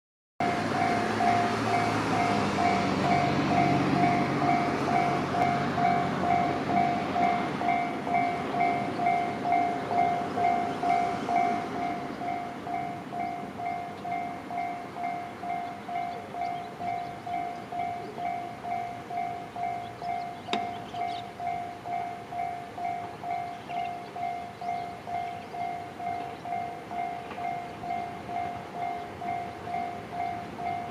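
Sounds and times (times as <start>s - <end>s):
passing train rumble: 0.4s - 30.9s.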